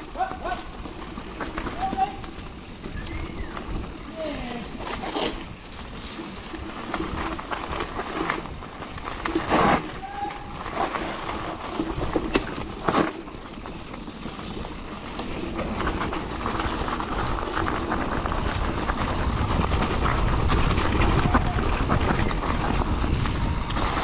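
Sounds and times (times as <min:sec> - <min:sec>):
bike rattling and knocking: 0:00.0 - 0:24.0
bike tyres rumbling on gravel: 0:00.0 - 0:24.0.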